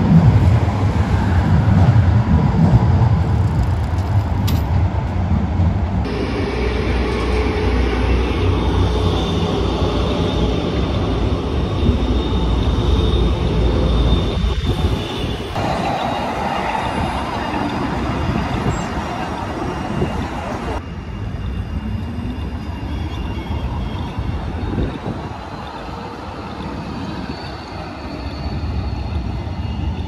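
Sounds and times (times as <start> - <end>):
high-pitched tram whine: 0.0 - 30.0
street noise: 0.0 - 30.0
tram wheels rumbling on rails: 0.0 - 30.0.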